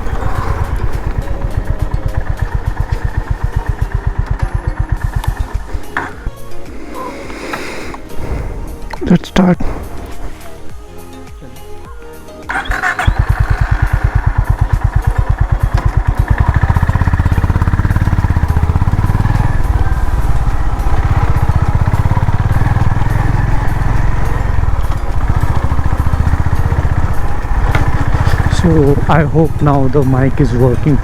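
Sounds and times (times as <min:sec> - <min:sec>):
motorcycle engine starting and running: 0:00.0 - 0:31.0.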